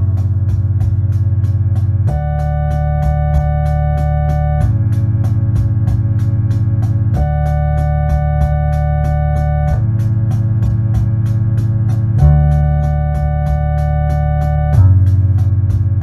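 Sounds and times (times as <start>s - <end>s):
deep bass: 0.0s - 16.0s
electronic organ chords: 0.0s - 16.0s
ticking beat: 0.0s - 16.0s.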